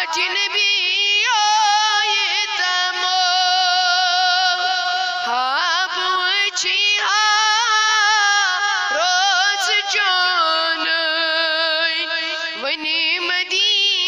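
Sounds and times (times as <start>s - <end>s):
person singing unaccompanied: 0.0s - 14.0s.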